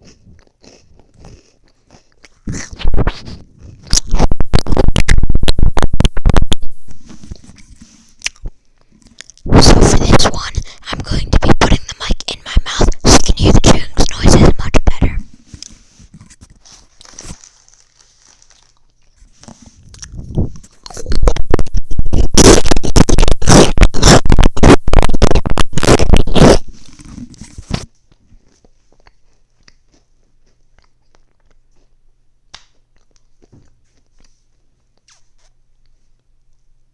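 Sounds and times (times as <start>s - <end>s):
crunching and chewing food: 0.0s - 36.7s.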